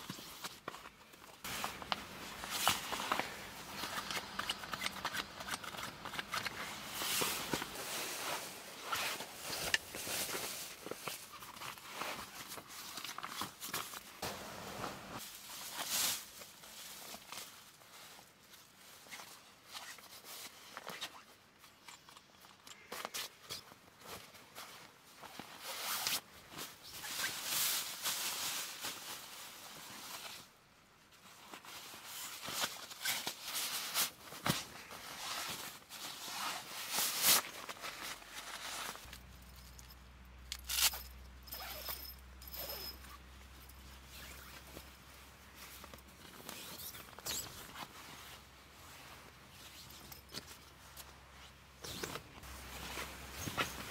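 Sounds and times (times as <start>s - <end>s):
plastic and nylon rustling: 0.0s - 21.4s, 23.6s - 53.9s.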